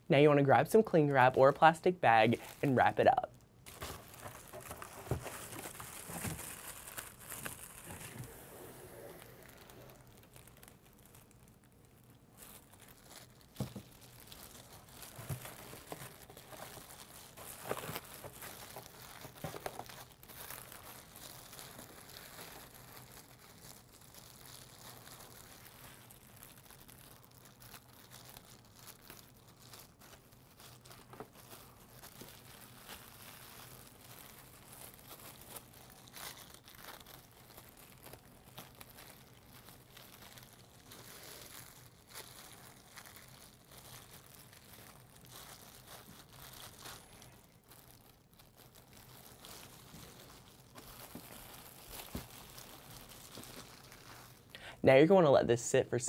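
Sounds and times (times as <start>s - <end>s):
plastic wrap crinkling: 0.1s - 56.0s.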